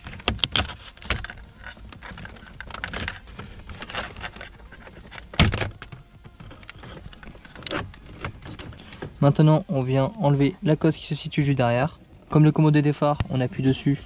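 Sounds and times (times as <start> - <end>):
plastic rustling and scraping: 0.0 - 14.0.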